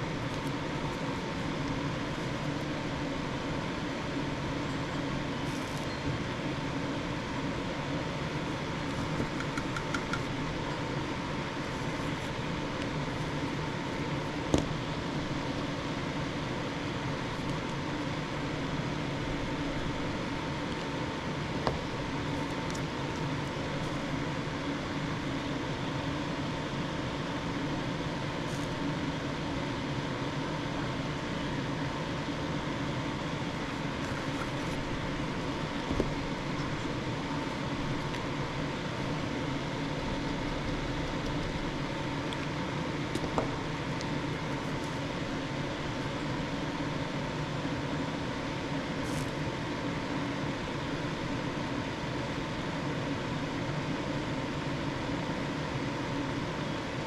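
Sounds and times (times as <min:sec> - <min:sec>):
machine hum with whine: 0:00.0 - 0:57.0.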